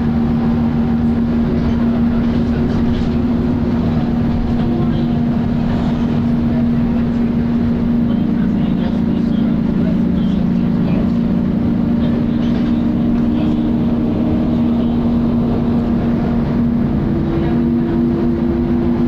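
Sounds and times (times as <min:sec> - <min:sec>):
diesel engine rumble: 0:00.0 - 0:19.0
loud cooling fan drone: 0:00.0 - 0:19.0.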